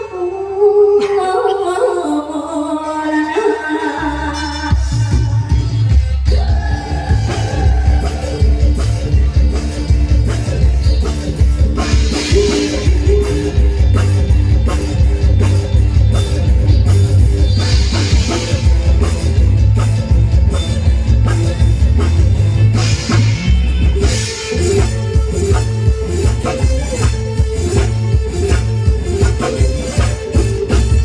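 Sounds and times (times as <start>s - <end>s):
live band music: 2.2s - 31.0s
electric guitar: 3.8s - 31.0s
drum kit steady beat: 4.5s - 31.0s
strong bass line: 4.7s - 31.0s.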